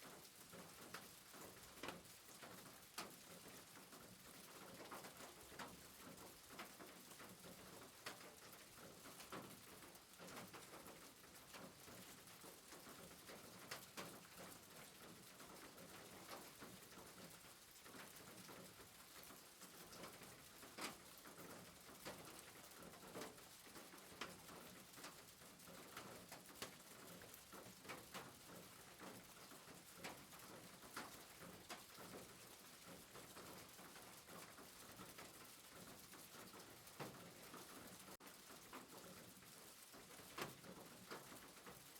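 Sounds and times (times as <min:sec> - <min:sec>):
soft rain hiss: 0:00.0 - 0:41.9
raindrop ticks: 0:00.1 - 0:41.9.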